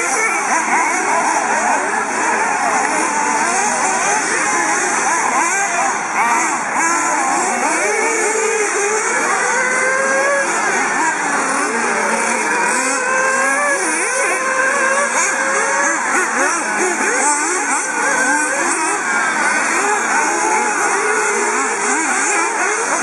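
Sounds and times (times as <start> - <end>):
rc car engines buzzing: 0.0 - 23.0.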